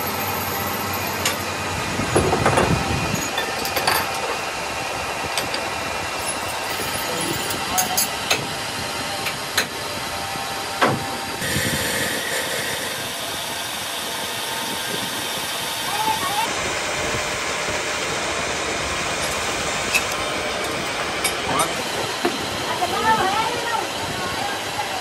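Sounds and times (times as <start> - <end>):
metal lathe running: 0.0 - 25.0.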